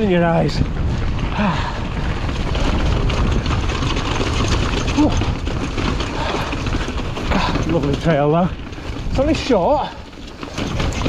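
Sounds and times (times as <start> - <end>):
bike rattling over rough trail: 0.0 - 11.0
wind buffeting microphone: 0.0 - 11.0.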